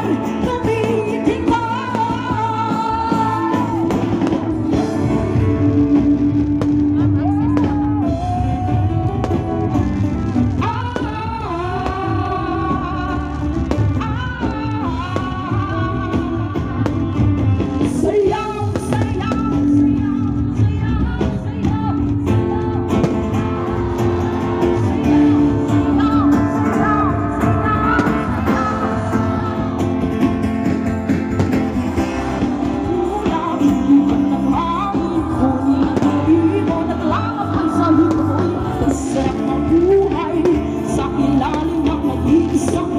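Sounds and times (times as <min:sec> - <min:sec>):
person singing with accompaniment: 0:00.0 - 0:42.9.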